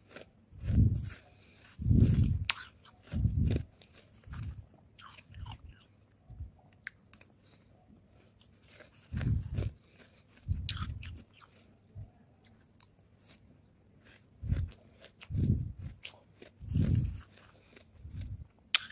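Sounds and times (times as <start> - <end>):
frost being chewed: 0.0 - 5.9, 6.7 - 11.8, 12.4 - 18.9.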